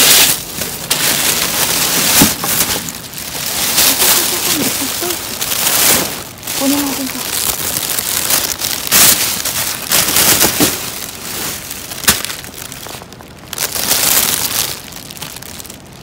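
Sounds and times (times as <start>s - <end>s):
plastic bags rustling: 0.0s - 16.0s.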